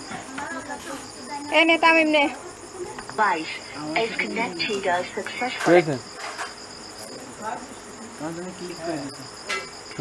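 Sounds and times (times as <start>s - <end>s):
insect chirring: 0.0s - 10.0s.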